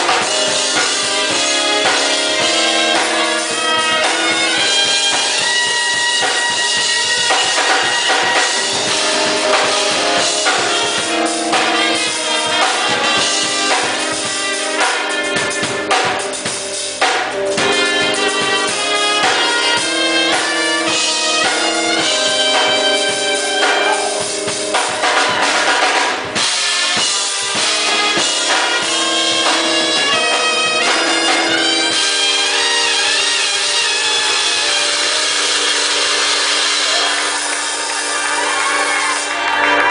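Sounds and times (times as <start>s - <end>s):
drum kit beat: 0.0s - 39.9s
pitched instruments holding notes: 0.0s - 39.9s.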